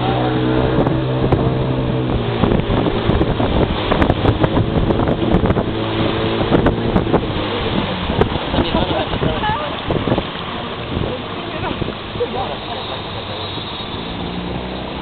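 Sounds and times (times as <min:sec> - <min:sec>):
wind buffeting microphone: 0:00.0 - 0:12.4
motorboat engine running: 0:00.0 - 0:15.0.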